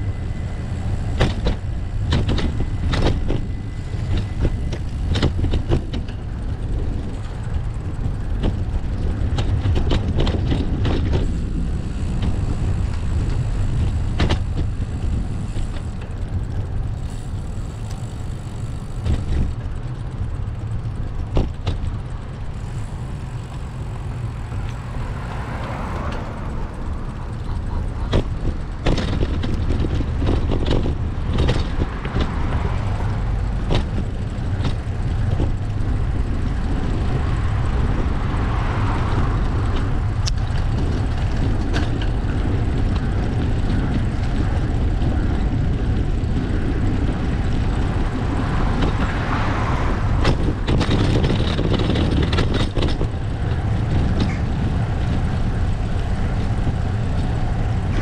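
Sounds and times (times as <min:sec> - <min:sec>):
bicycle clicks and rattles: 0:00.0 - 0:58.0
motor vehicles passing: 0:00.0 - 0:58.0
wind rumble on microphone: 0:00.0 - 0:58.0.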